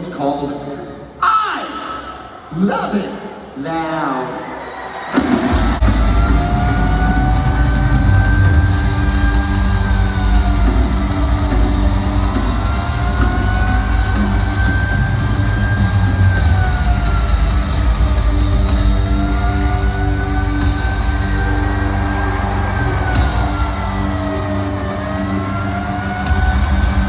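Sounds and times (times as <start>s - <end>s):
heavy drums: 5.1s - 27.0s
live rock band playing: 5.1s - 27.0s.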